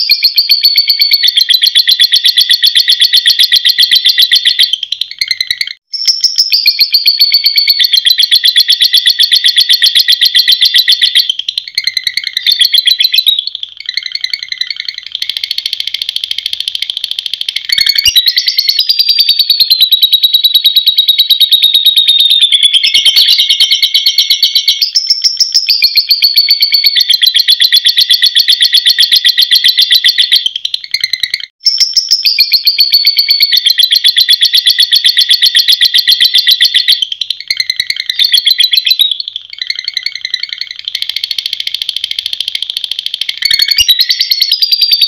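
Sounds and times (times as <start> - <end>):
bird high-pitched trill: 0.0 - 45.0.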